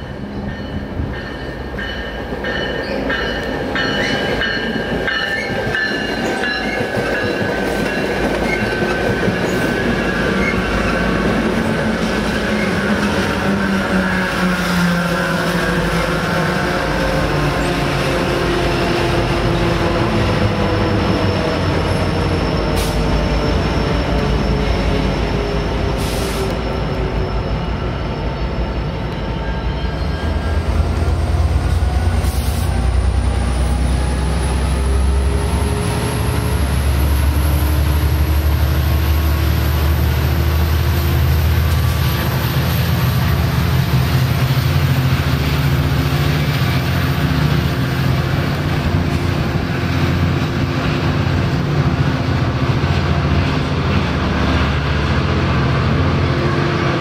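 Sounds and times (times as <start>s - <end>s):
wheel and rail noise: 0.0s - 57.0s.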